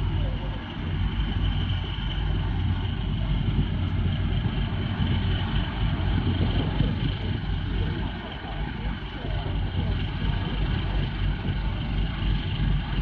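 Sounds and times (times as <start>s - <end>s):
diesel engines droning: 0.0s - 13.0s.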